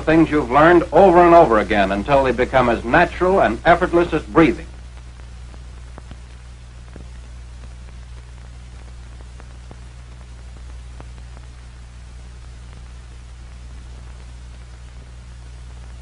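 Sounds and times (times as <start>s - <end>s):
film soundtrack hiss: 0.0s - 16.0s
low hum: 0.0s - 16.0s
faint clicks and crackles: 0.1s - 16.0s.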